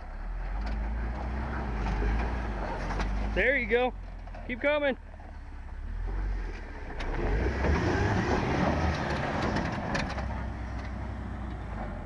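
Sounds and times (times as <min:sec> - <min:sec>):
vehicle engine pulling at low speed: 0:00.0 - 0:12.0.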